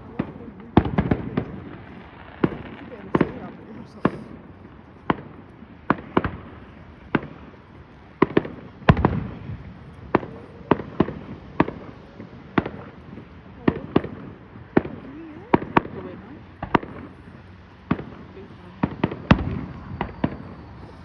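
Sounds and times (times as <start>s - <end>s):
heavy firework boom: 0.0s - 7.6s, 8.2s - 17.1s, 18.8s - 21.0s
fireworks bangs: 0.0s - 21.0s.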